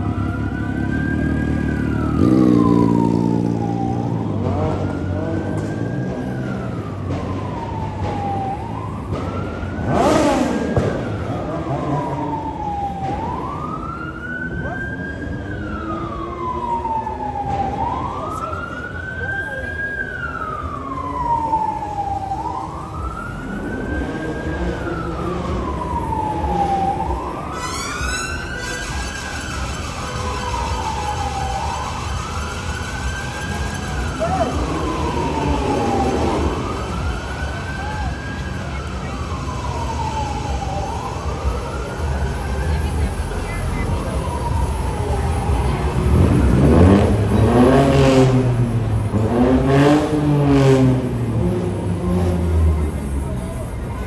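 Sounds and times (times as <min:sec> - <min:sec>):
car engines running: 0:00.0 - 0:54.0
emergency vehicle siren wailing: 0:00.0 - 0:54.0.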